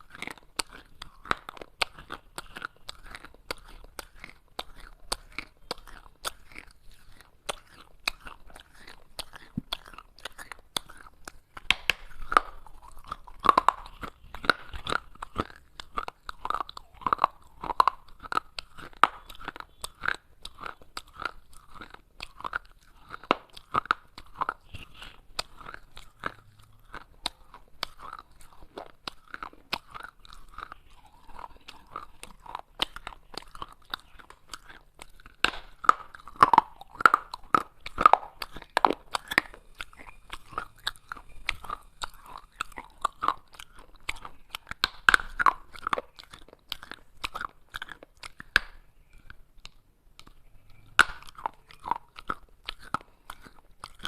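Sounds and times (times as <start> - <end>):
crunching of clay being chewed: 0.0 - 54.0.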